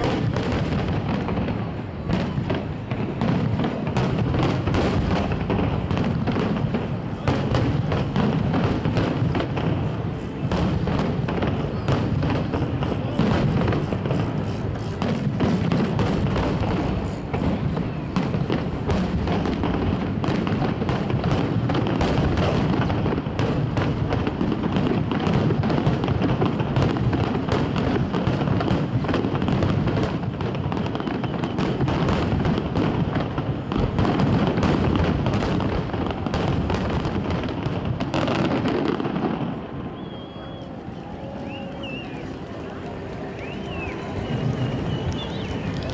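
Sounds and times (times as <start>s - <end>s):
fireworks booming and crackling: 0.0s - 45.9s.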